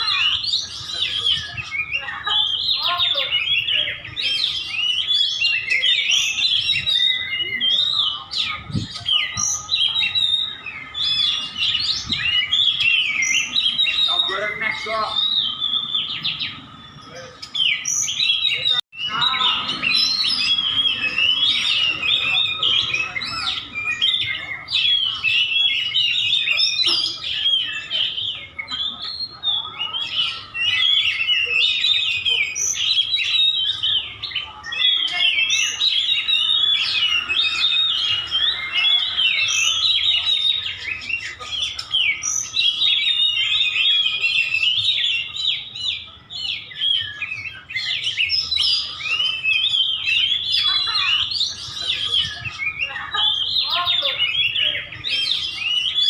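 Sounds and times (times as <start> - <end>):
birds chirping and whistling: 0.0 - 56.0.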